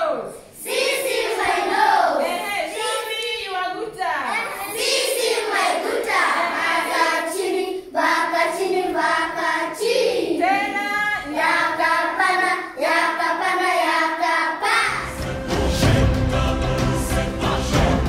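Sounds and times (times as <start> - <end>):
children singing together: 0.0 - 2.5, 4.3 - 18.0.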